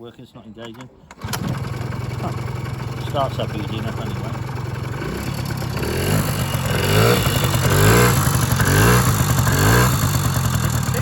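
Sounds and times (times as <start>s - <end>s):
two-stroke engine revving: 1.1s - 11.0s.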